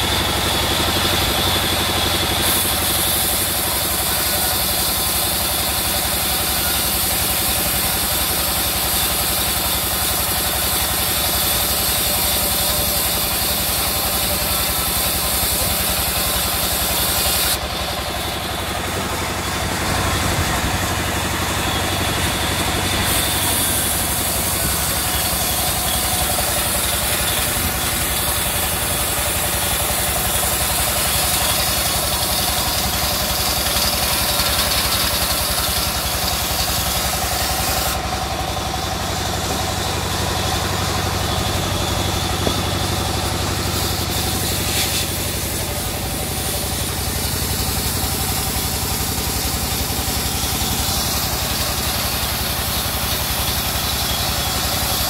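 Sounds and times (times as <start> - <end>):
band saw running: 0.0 - 55.0.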